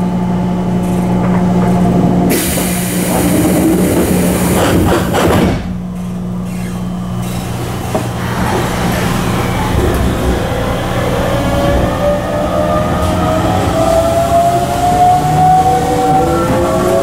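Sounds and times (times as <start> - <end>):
electric train running hum: 0.0 - 17.0.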